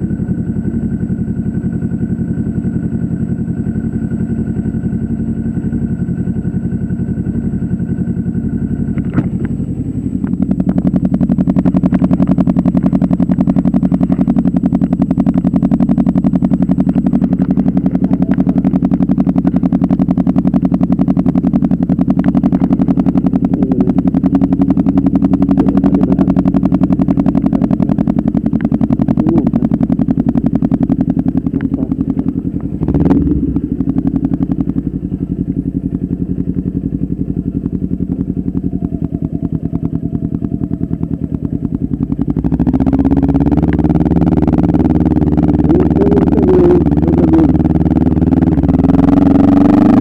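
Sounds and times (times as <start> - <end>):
motorcycle engine idling: 0.0 - 50.0.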